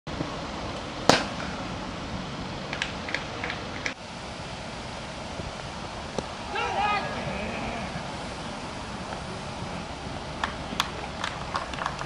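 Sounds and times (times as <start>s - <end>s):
steady background hiss: 0.1s - 12.0s.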